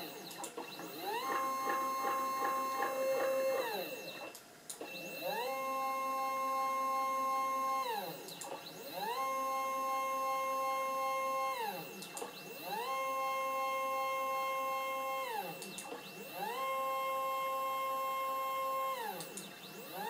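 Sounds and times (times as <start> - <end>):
stepper motor whine: 0.0 - 20.0.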